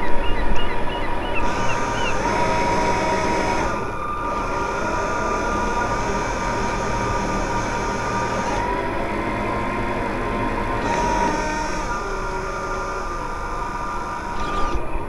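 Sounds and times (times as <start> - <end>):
model boat motors whining: 0.0 - 15.0.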